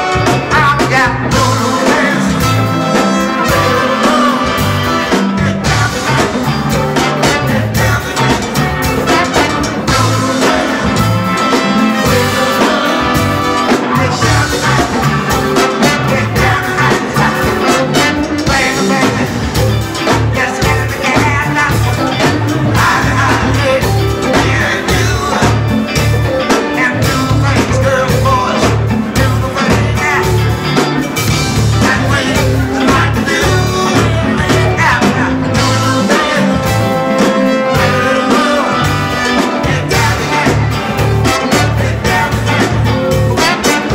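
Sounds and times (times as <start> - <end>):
funk band playing: 0.0 - 43.9
horn section: 0.0 - 43.9
pulsing bass line: 0.0 - 43.9.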